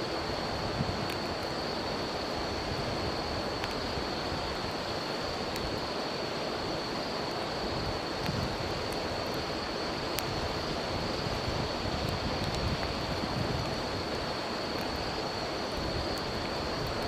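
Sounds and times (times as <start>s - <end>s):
campfire crackling: 0.0s - 17.0s
insects trilling: 0.0s - 17.0s
river water flowing: 0.0s - 17.0s.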